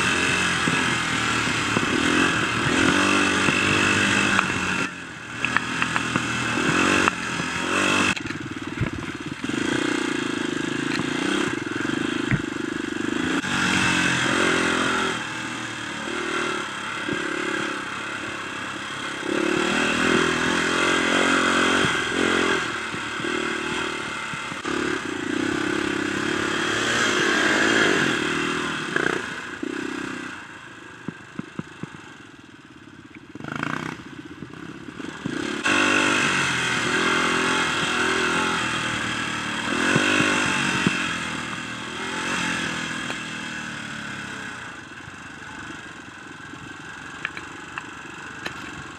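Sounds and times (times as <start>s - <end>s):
dirt bike engine revving: 0.0s - 30.6s, 33.3s - 46.0s.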